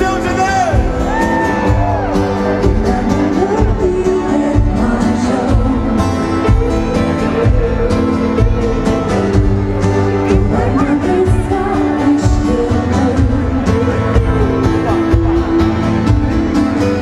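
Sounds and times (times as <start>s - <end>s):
live pop music with singing: 0.0s - 17.0s.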